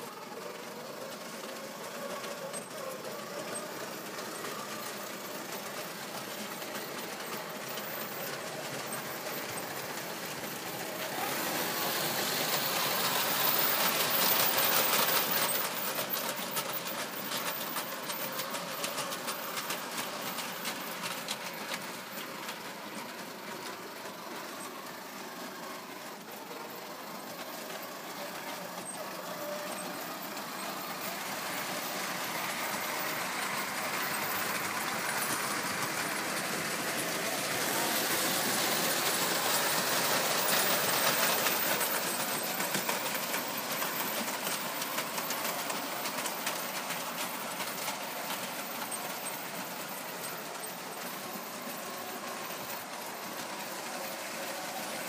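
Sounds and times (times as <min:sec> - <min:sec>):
model train motor whirring: 0:00.0 - 0:55.0
wheels clicking over rail joints: 0:00.0 - 0:55.0.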